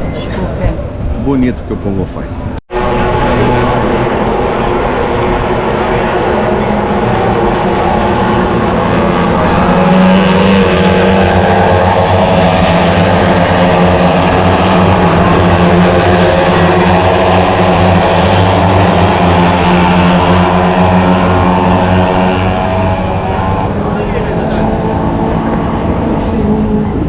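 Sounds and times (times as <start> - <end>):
racing motorcycles at high revs: 2.7 - 27.0.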